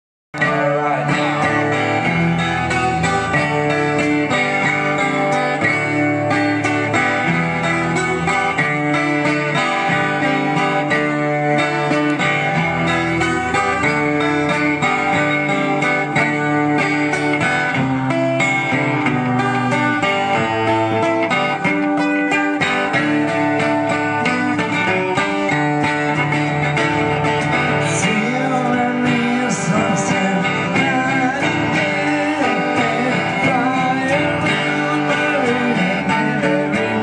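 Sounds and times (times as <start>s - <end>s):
acoustic guitar chords: 0.4s - 37.0s.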